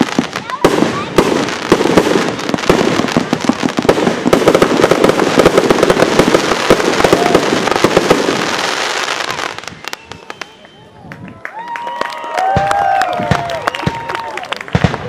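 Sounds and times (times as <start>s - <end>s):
fireworks cracking and banging: 0.0s - 11.4s, 12.4s - 15.0s.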